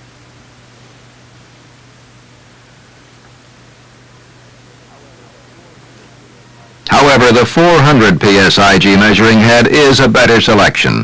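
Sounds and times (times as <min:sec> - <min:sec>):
low steady hum: 0:00.0 - 0:11.0
steady hiss: 0:00.0 - 0:11.0.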